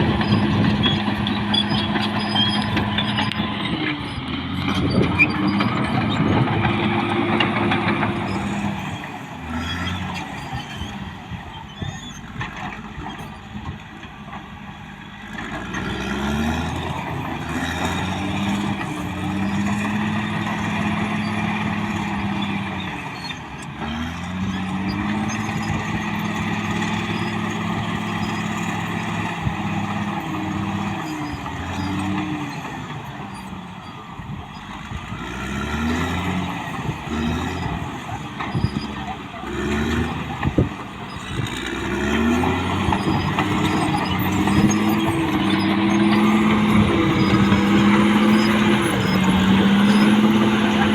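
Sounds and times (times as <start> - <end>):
bulldozer diesel engine revving: 0.0 - 50.9.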